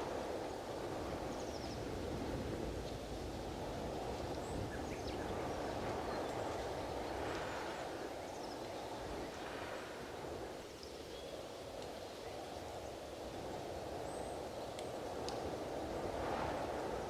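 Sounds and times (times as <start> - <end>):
strong gusting wind: 0.0 - 17.0.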